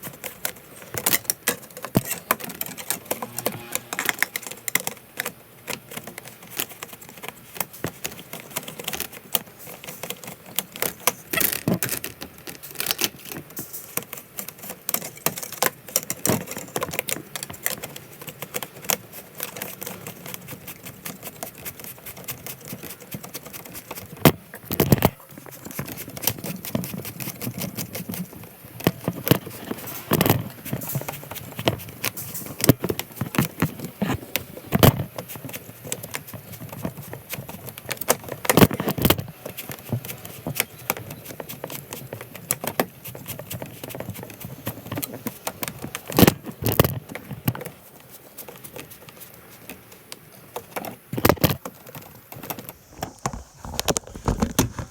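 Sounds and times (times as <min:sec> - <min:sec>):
hard objects clicking and tapping: 0:00.0 - 0:47.8.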